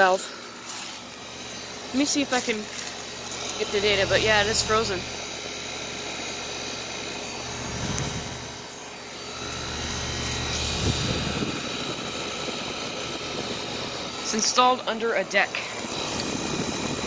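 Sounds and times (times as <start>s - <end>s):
compressor humming: 0.0s - 17.0s
fan rushing: 0.0s - 17.0s.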